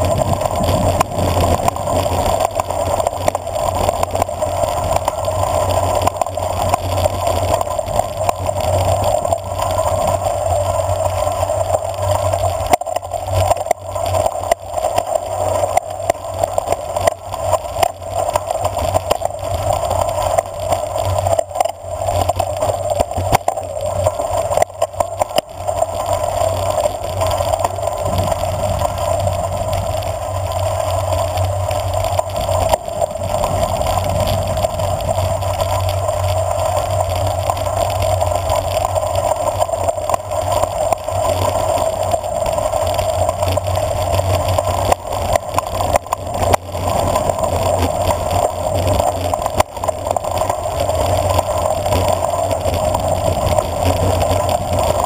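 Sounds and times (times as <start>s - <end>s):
bicycle tyres on loose gravel: 0.0s - 55.0s.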